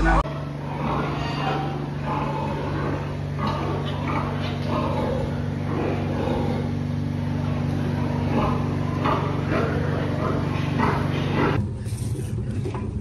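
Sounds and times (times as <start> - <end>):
pigs grunting and squealing: 0.0 - 11.6
low mechanical hum: 0.0 - 13.0.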